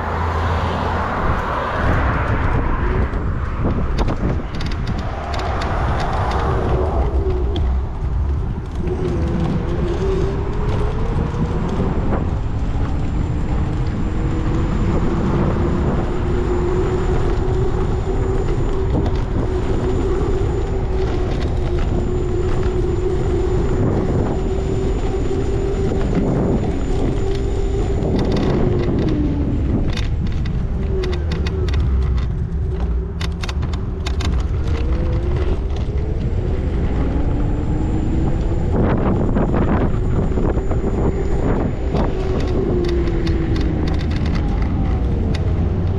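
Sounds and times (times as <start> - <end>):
road and wind rumble: 0.0 - 45.9
vehicle motor whine: 0.0 - 45.9.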